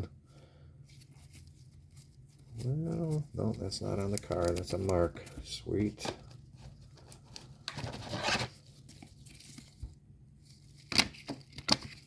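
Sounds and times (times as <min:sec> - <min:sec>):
cards and wrapper handled: 0:00.9 - 0:09.8, 0:10.4 - 0:12.0.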